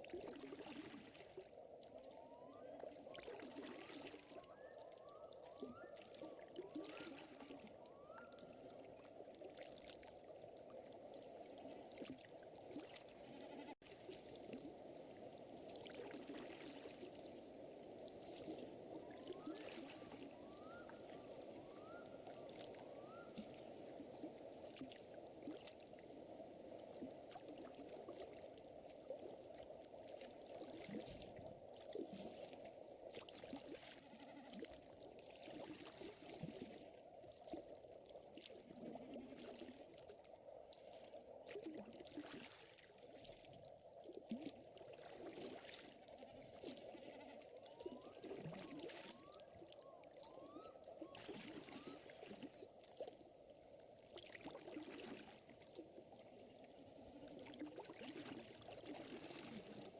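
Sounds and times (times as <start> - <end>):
lake water hum: 0.0 - 59.9.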